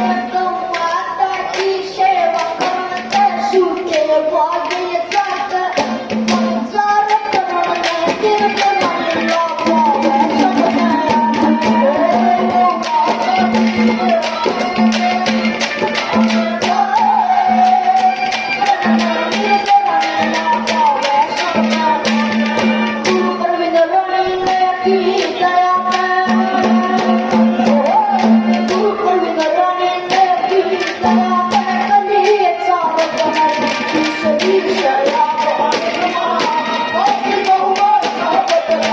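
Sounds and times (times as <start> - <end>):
child singing: 0.0 - 38.9
hand drum beat: 0.0 - 38.9.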